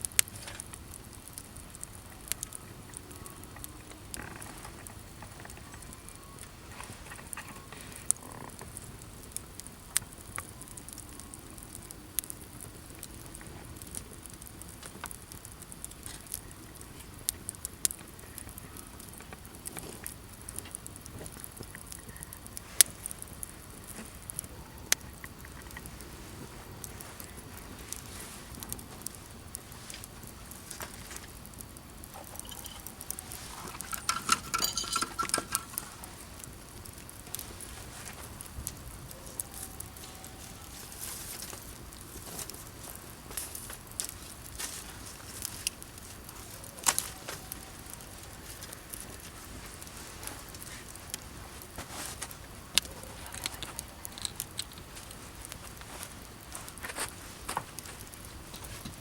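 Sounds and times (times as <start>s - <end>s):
campfire crackling: 0.0s - 59.0s
faint steady hiss: 0.0s - 59.0s.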